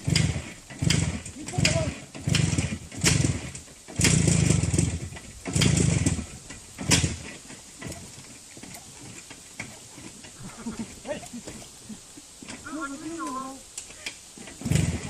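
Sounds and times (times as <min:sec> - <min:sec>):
motorcycle engine cranking: 0:00.0 - 0:11.8, 0:12.4 - 0:15.0.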